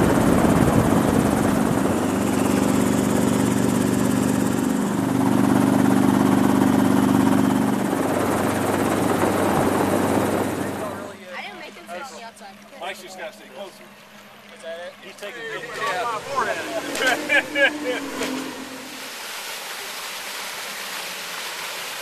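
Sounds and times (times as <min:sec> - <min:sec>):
helicopter engine and rotor drone: 0:00.0 - 0:19.1.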